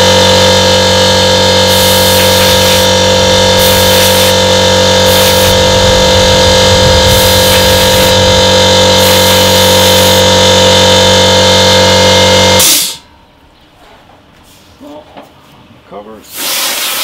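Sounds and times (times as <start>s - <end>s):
air compressor running: 0.0s - 13.2s, 16.3s - 17.0s.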